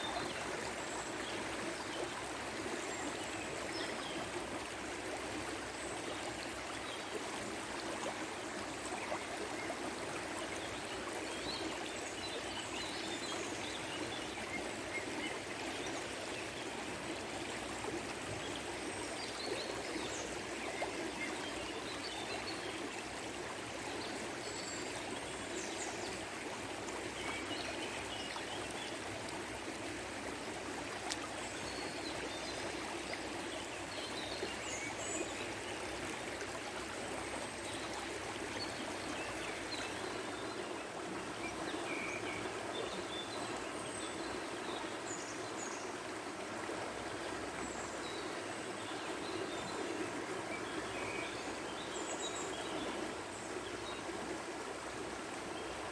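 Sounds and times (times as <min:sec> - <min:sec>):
stream of water flowing: 0:00.0 - 0:55.9.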